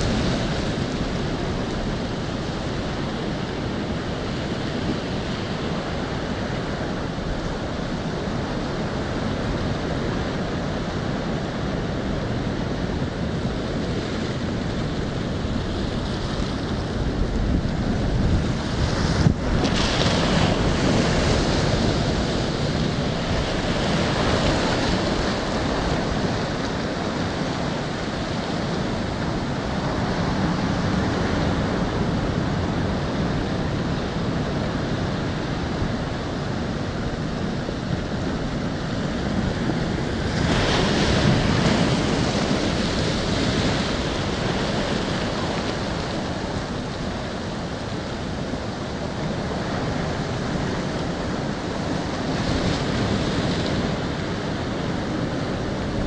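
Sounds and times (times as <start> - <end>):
ocean surf breaking: 0.0 - 56.0
wind on microphone: 0.0 - 56.0.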